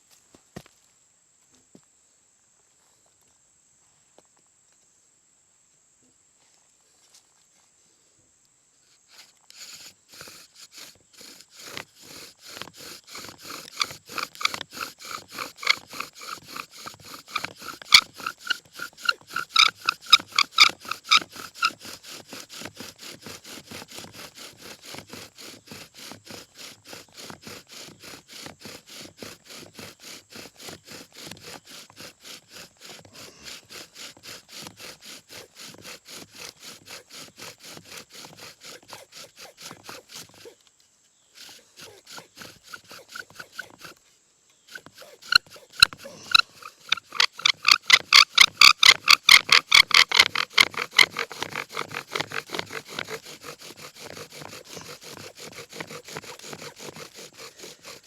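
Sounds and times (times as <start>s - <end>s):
bow drill rasping grind: 8.8s - 58.0s
bow drill spindle squeaking: 9.1s - 40.6s, 41.4s - 44.0s, 44.6s - 58.0s.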